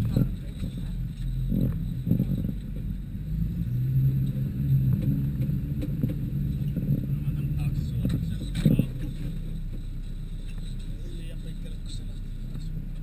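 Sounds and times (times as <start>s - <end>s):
van engine low rumble: 0.0s - 13.0s.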